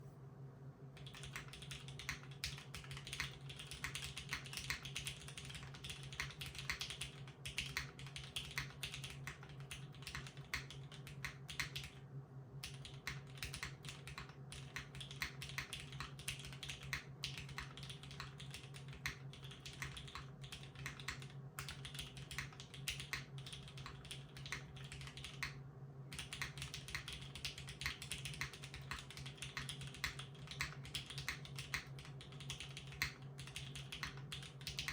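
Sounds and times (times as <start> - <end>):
typing on mechanical keyboard: 1.0 - 12.0, 12.6 - 34.9.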